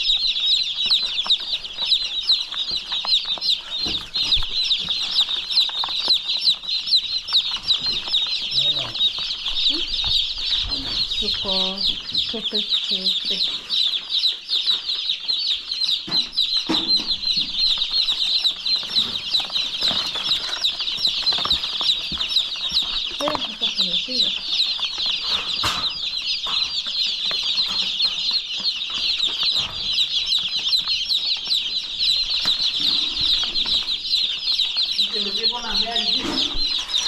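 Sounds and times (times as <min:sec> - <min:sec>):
chicks peeping: 0:00.0 - 0:37.0.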